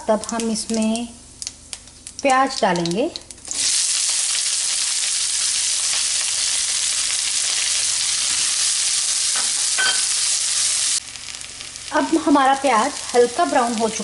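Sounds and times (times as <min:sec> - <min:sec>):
onions sizzling in a frying pan: 0:00.1 - 0:14.0.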